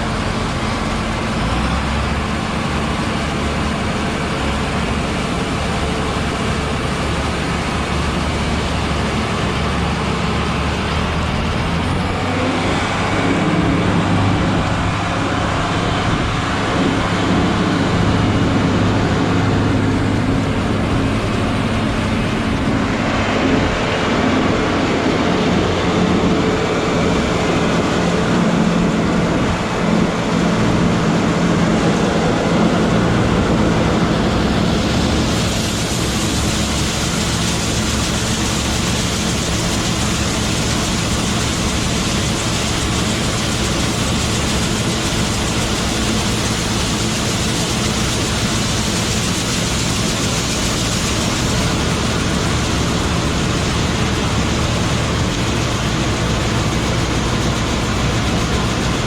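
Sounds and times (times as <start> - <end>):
large diesel engine running: 0.0 - 59.0.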